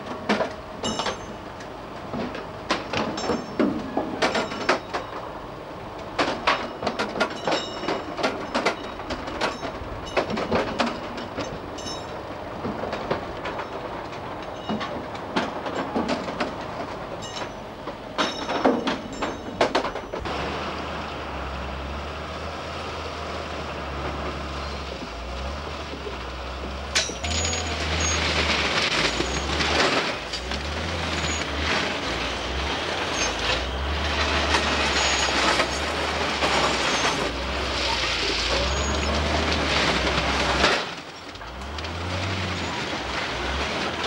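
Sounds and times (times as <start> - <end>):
diesel engine droning: 0.0 - 44.0
work train clanking and squealing: 0.0 - 44.0.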